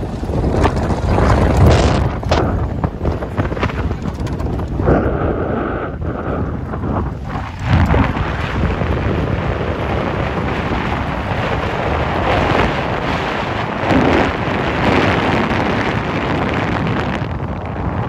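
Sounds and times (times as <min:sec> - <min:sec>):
vehicle driving rumble: 0:00.0 - 0:16.0
wind buffeting microphone: 0:00.0 - 0:18.0.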